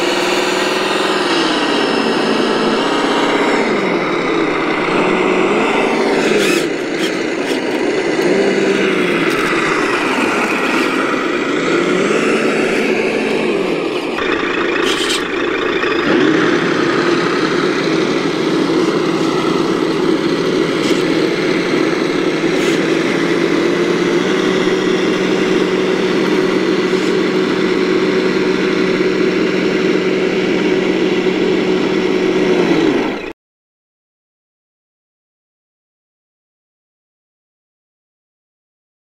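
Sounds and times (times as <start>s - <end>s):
model truck motor drone: 0.0s - 33.3s.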